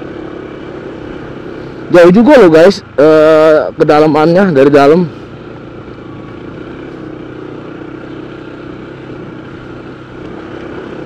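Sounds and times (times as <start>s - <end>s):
road noise rush: 0.0s - 11.0s
scooter engine running: 0.0s - 11.0s.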